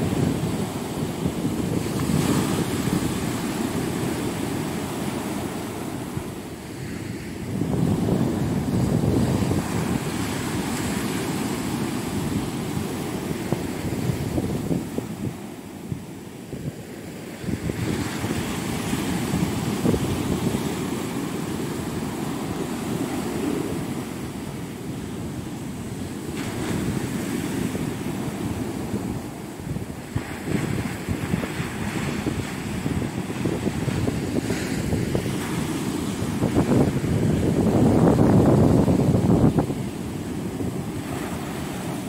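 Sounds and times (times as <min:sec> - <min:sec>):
sea waves breaking on beach: 0:00.0 - 0:42.0
wind buffeting microphone: 0:00.0 - 0:42.0.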